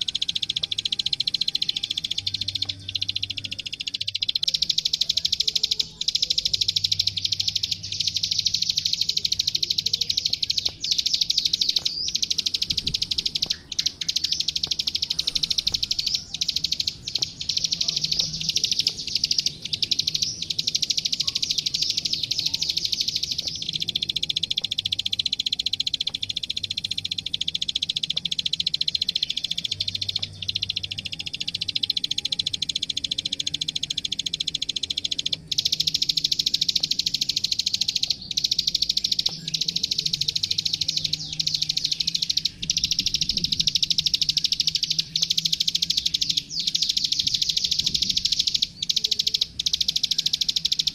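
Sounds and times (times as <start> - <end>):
prinia singing fast chattering song: 0.0 - 50.9.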